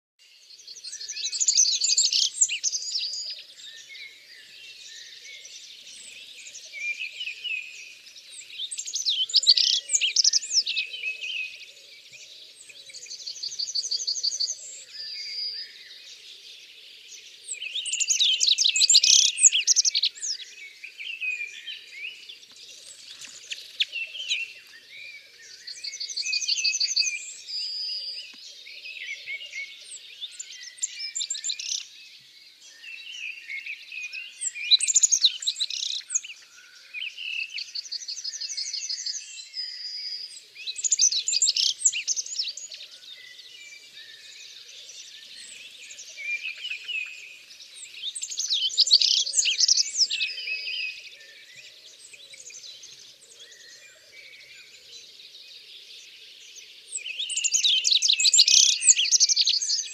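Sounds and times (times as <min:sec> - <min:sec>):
birds singing: 0:00.2 - 0:59.9.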